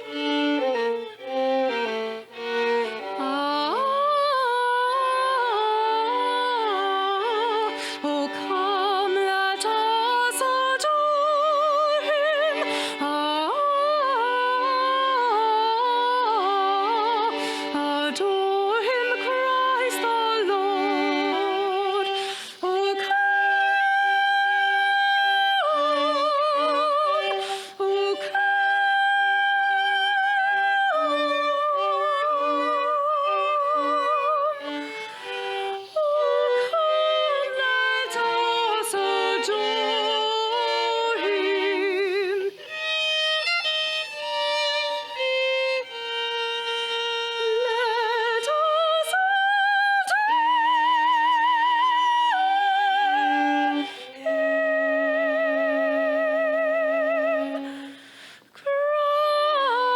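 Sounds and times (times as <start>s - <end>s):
person singing with vibrato: 0.0s - 59.9s.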